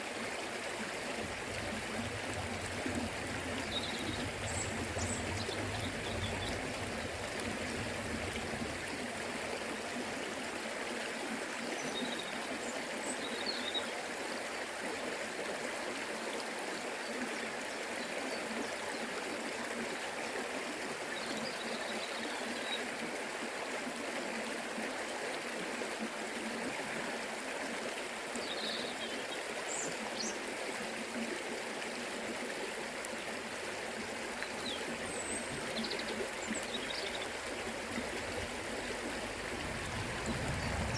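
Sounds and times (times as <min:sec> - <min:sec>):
river water rushing and trickling: 0:00.0 - 0:40.9.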